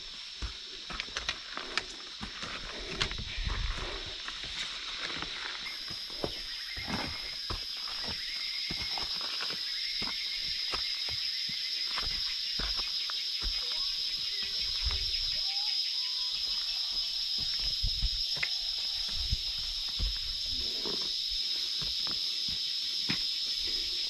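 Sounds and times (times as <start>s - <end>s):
footsteps on dirt trail: 0.0s - 15.4s, 16.3s - 24.0s
insects droning: 0.0s - 24.0s.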